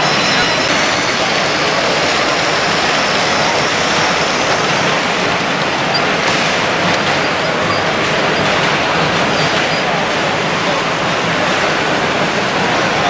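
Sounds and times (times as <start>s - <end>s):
hubbub of many voices: 0.0s - 13.0s
model electric train running: 0.0s - 13.0s.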